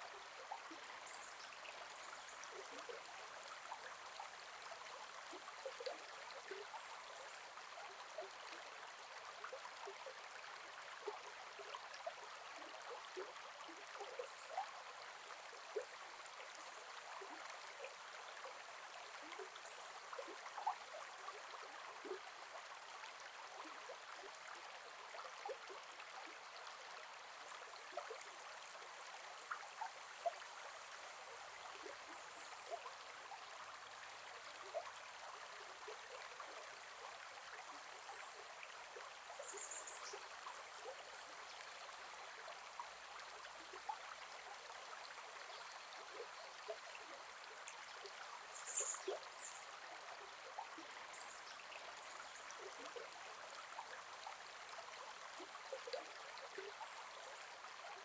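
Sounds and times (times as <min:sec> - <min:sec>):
river flowing and babbling: 0:00.0 - 0:58.0.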